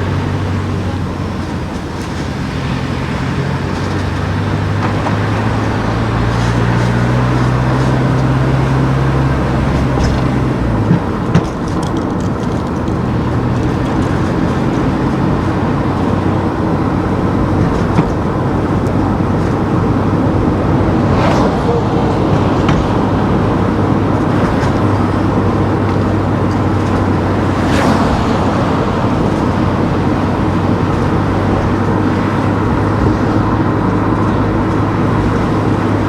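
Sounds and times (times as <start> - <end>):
car engine hum: 0.0 - 36.0
tyre and road noise: 0.0 - 36.0.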